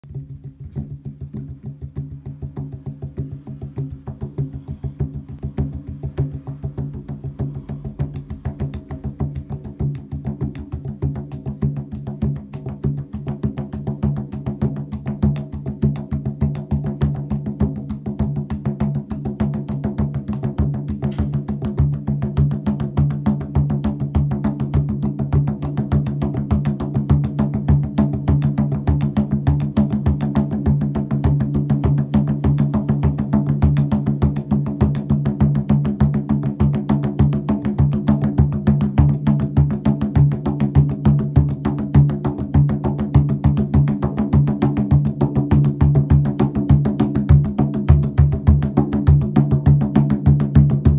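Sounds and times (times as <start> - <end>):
fast repeating percussion: 0.2 - 50.9.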